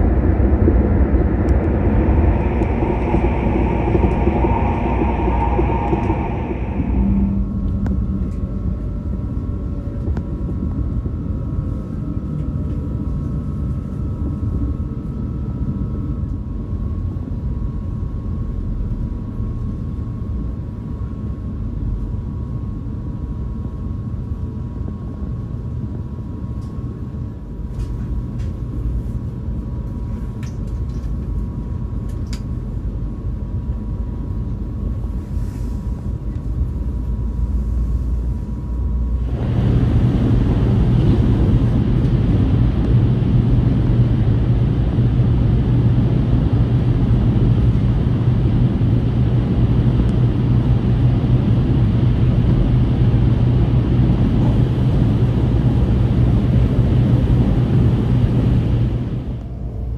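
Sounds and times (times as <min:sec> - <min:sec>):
faint steady whine: 0:00.0 - 0:59.9
train interior low rumble: 0:00.0 - 0:59.9.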